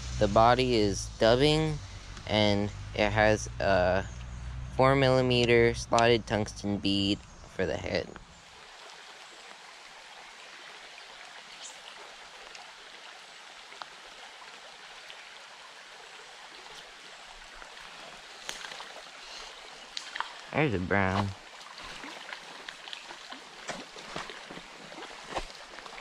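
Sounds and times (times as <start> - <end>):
creek water flowing: 0.0 - 26.0.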